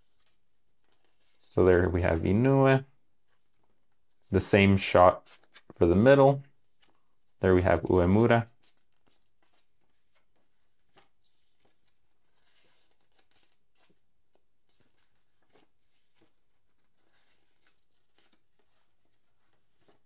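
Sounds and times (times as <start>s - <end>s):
booklet pages rustling and turning: 0.0s - 20.0s.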